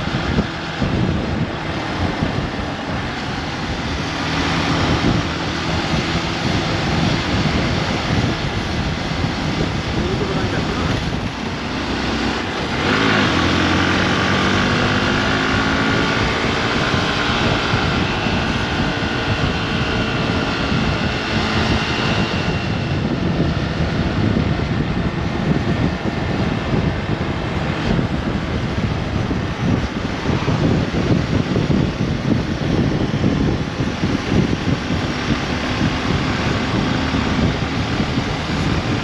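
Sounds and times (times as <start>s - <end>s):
motorcycle engine: 0.0s - 39.0s
wind rush over microphone: 0.0s - 39.0s.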